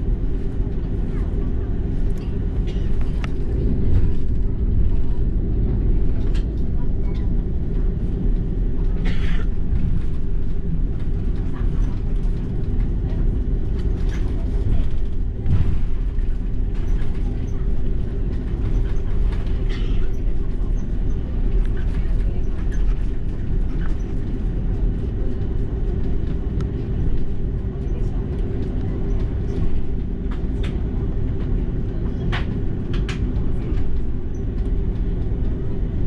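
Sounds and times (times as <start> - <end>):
airliner engines rumbling: 0.0 - 36.0.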